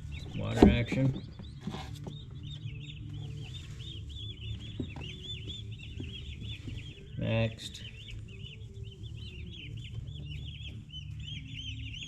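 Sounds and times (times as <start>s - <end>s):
turkey poults peeping: 0.0s - 12.0s.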